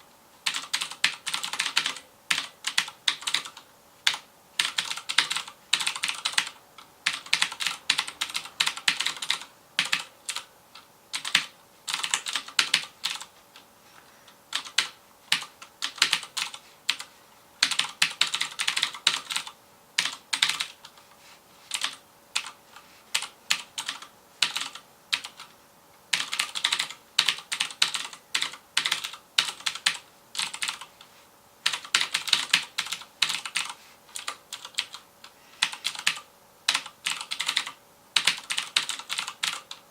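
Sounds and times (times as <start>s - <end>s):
fast typing on mechanical keyboard: 0.4s - 10.5s, 11.1s - 13.3s, 14.5s - 21.0s, 21.7s - 25.5s, 26.1s - 31.0s, 31.6s - 39.8s.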